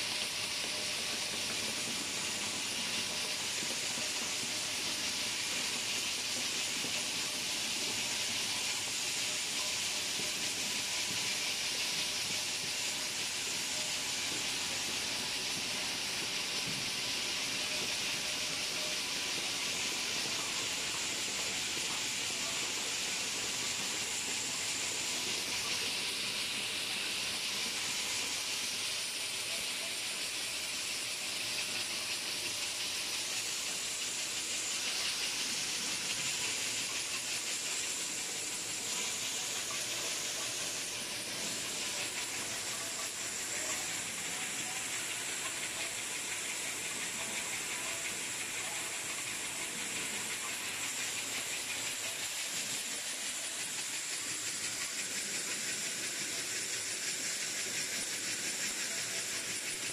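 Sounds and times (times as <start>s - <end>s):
machine hissing: 0.0s - 59.9s.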